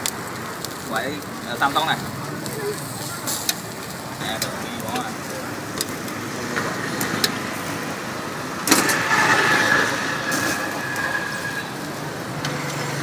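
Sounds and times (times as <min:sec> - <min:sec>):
street traffic: 0:00.0 - 0:13.0
vehicle with high whine: 0:00.0 - 0:13.0.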